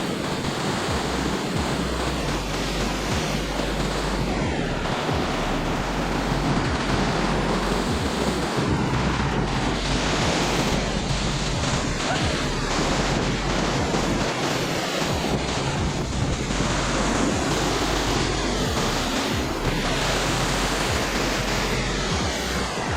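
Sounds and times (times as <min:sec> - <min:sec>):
waterfall roaring: 0:00.0 - 0:22.9.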